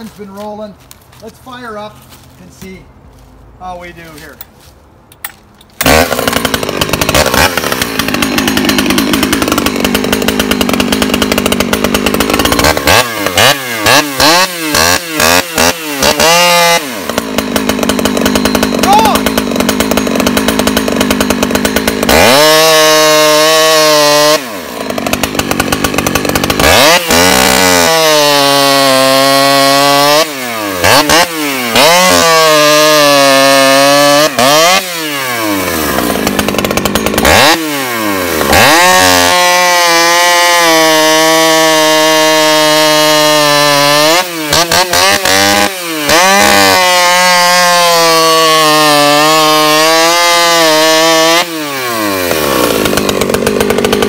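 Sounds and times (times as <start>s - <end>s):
chainsaw cutting log: 0.0s - 2.8s, 5.2s - 54.0s.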